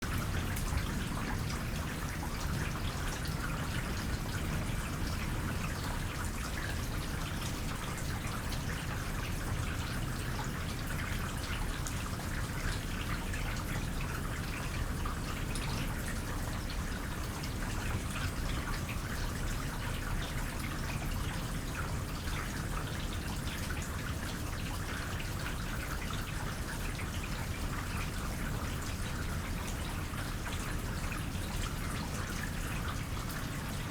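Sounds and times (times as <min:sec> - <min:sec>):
light rain: 0:00.0 - 0:33.9
water trickling: 0:00.0 - 0:33.9.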